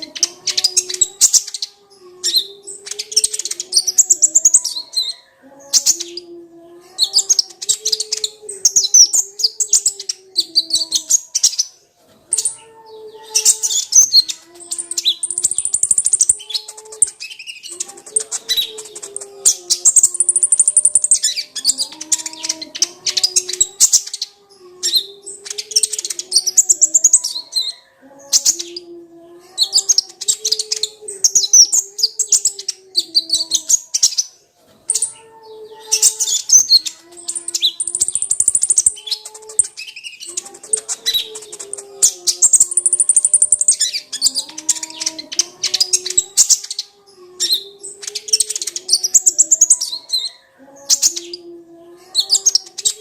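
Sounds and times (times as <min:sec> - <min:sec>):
bird chirping trills: 0:00.0 - 0:53.0.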